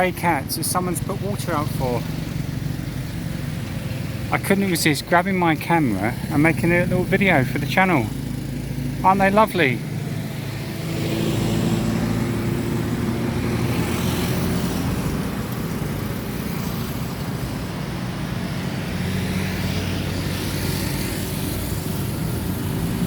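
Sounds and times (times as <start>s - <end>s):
passing traffic: 0.0s - 23.0s
vehicle engines humming: 0.0s - 23.0s.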